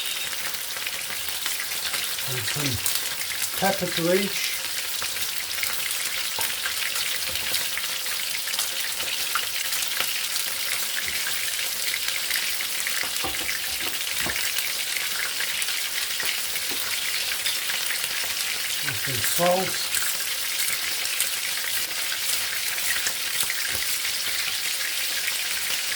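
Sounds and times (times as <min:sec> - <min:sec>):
sausages sizzling in a frying pan: 0:00.0 - 0:25.9.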